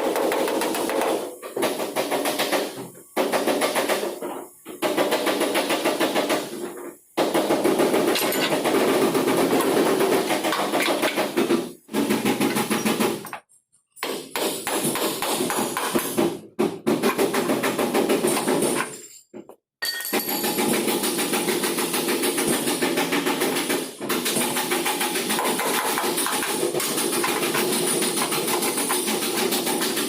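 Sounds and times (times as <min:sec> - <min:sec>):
rapid hammering on metal: 0:00.0 - 0:13.4, 0:14.0 - 0:18.8, 0:20.3 - 0:30.0.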